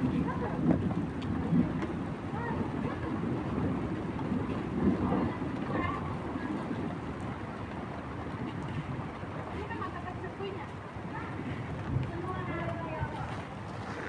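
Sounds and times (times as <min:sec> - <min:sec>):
rolling thunder: 0:00.0 - 0:14.0
wind buffeting microphone: 0:00.0 - 0:14.0.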